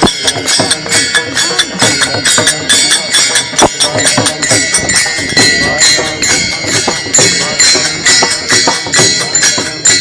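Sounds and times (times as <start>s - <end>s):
group singing devotional song: 0.0s - 10.0s
small hand cymbals clashing: 0.0s - 10.0s.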